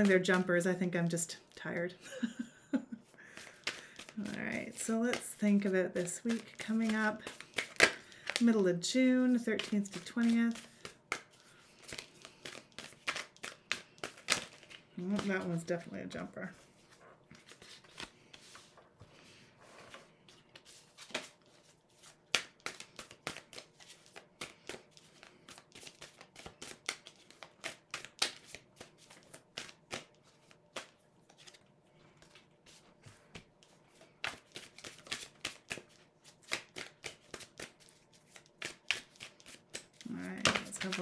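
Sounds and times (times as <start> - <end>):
cards being shuffled: 3.3 - 15.9, 16.7 - 41.0.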